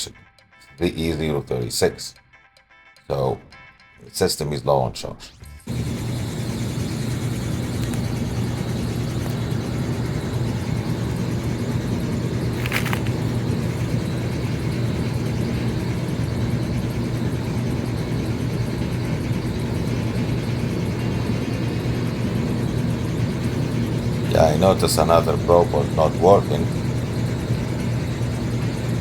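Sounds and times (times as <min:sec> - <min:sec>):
air conditioner humming: 0:05.7 - 0:29.0.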